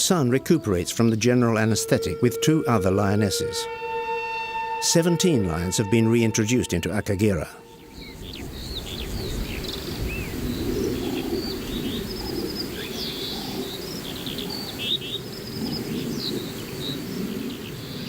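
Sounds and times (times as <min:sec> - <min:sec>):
birds chirping and trilling: 0:00.0 - 0:04.0, 0:05.0 - 0:18.0.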